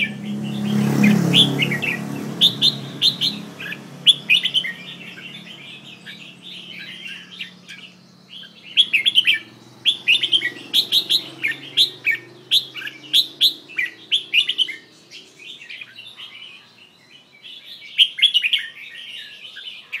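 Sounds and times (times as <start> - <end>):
bird singing chirpy phrases: 0.0 - 20.0.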